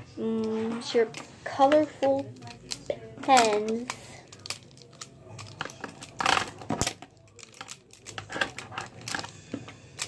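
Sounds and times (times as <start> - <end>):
pens clattering: 0.4 - 10.0
plastic pens clicking together: 0.4 - 10.0.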